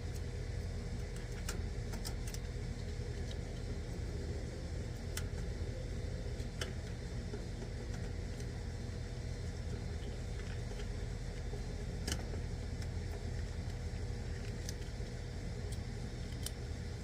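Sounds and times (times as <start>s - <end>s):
air conditioner unit humming: 0.0s - 17.0s.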